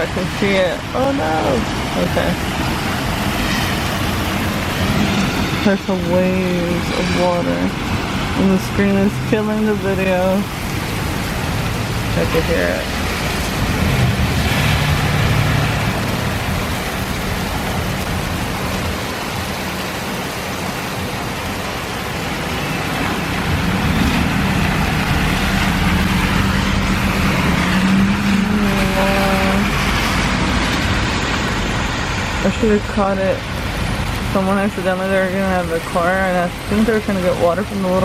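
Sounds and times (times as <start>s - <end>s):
car engine humming: 0.0s - 38.0s
heavy rain pouring: 0.0s - 38.0s.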